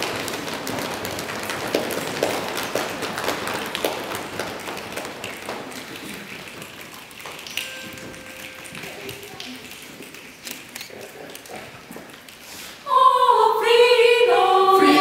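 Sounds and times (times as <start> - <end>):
hand claps: 0.0 - 12.4.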